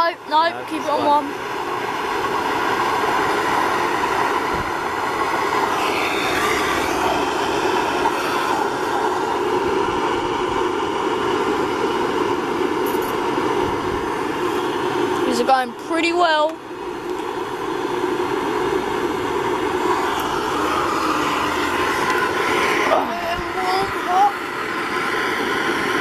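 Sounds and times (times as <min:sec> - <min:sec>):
blower rushing air: 0:00.0 - 0:26.0.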